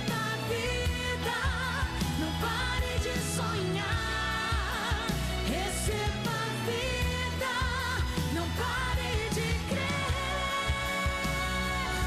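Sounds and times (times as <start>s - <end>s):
backing track with bass line: 0.0s - 12.0s
woman singing gospel pop: 0.0s - 12.0s.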